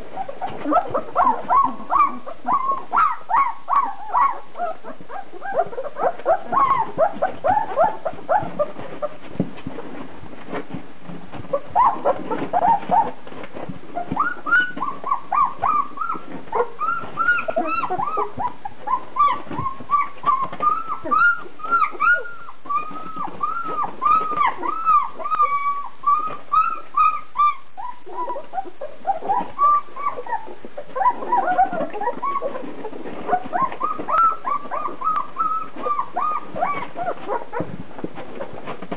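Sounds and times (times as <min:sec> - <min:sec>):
puppies whimpering and squeaking: 0:00.0 - 0:38.9.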